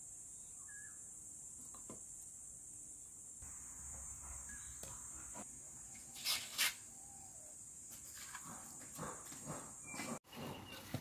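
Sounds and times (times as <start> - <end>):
high insect drone: 0.0 - 9.0.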